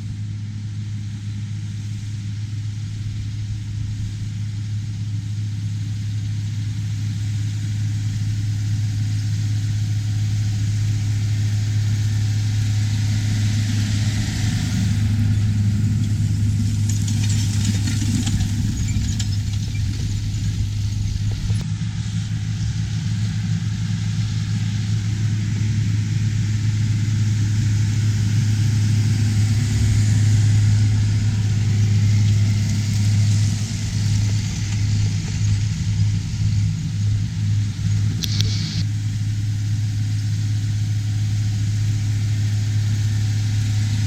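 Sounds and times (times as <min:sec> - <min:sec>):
diesel farm machinery running: 0:00.0 - 0:44.0.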